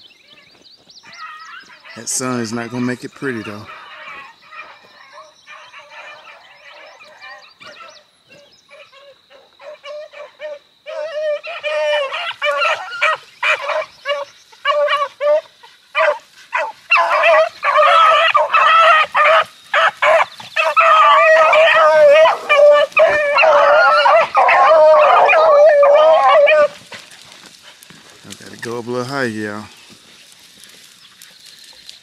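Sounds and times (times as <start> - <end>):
hounds baying: 1.0 - 29.4.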